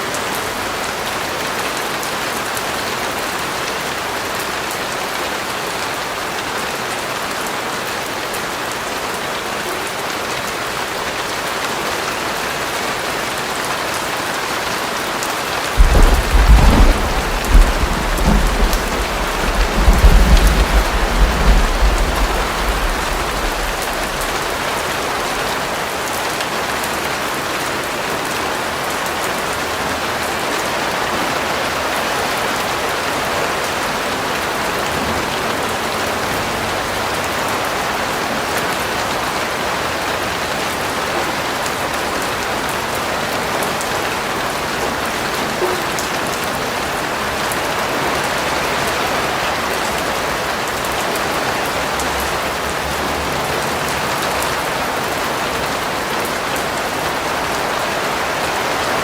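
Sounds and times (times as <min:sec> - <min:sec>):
steady rain with drop patter: 0:00.0 - 0:59.0.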